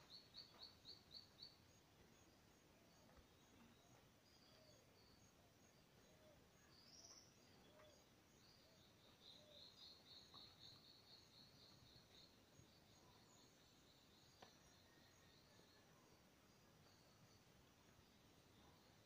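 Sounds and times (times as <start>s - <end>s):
faint birdsong: 0.0s - 19.0s.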